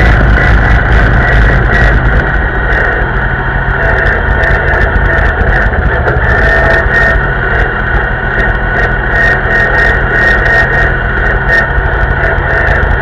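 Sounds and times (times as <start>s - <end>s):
high whine: 0.0s - 13.0s
tractor engine running: 0.0s - 13.0s.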